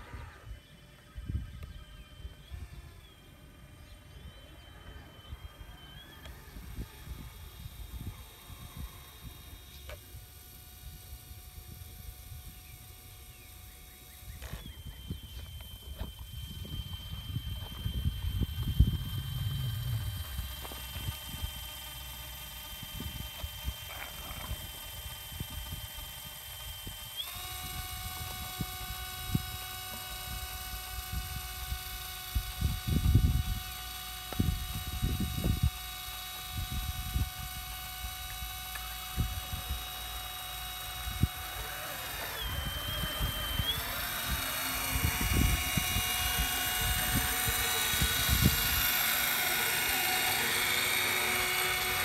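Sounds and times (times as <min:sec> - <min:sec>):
electric motors whining: 0:00.0 - 0:52.0.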